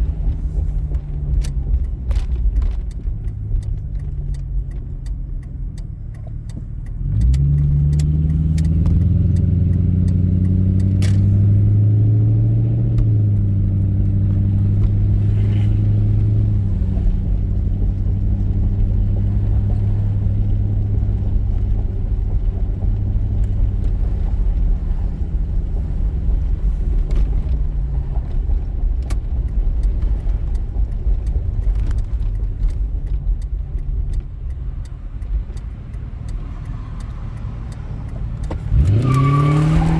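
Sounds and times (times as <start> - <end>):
car engine exhaust rumble: 0.0 - 39.9.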